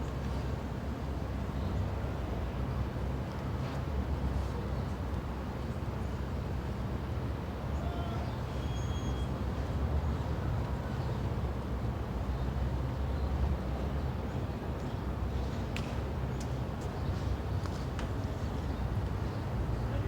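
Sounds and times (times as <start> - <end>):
low rumble of street traffic: 0.0 - 20.0.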